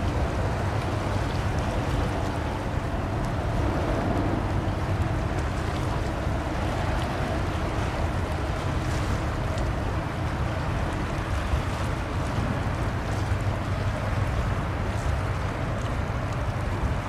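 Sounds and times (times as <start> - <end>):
ship rumbling: 0.0 - 17.0
water wash: 0.0 - 17.0
wind on the microphone: 0.0 - 17.0.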